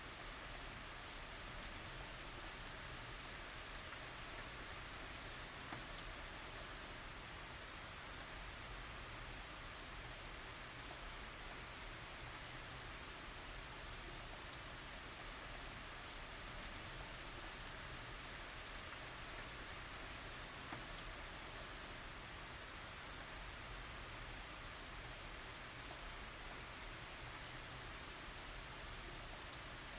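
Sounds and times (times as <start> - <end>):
rain falling: 0.0 - 29.9.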